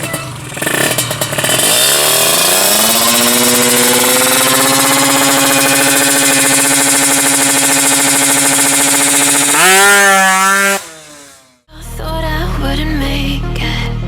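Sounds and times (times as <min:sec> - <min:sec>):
two-stroke engine revving with rattly buzz: 0:00.0 - 0:11.7.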